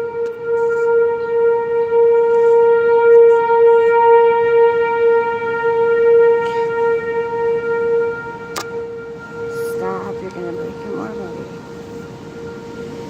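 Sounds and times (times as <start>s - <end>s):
tornado warning siren: 0.0s - 13.0s.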